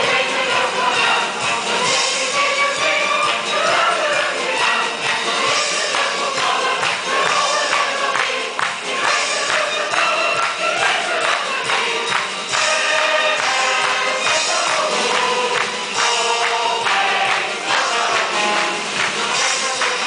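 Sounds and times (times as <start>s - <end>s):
upbeat music with singing voices: 0.0s - 20.0s.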